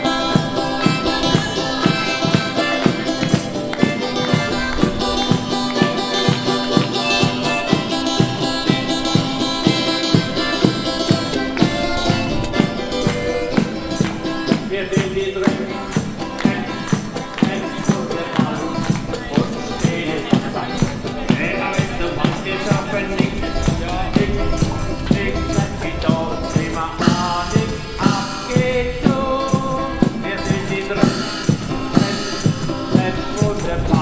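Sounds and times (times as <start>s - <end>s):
drum strokes: 0.0s - 34.0s
pitched melody: 0.0s - 34.0s
tambourine jingles: 0.0s - 34.0s.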